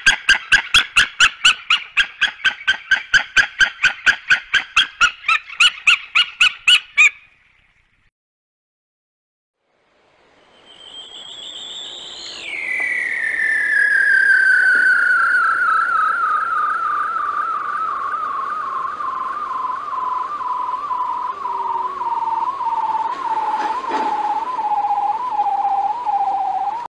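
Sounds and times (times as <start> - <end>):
wobbling whistle-like tone: 0.0 - 7.2, 10.5 - 26.9.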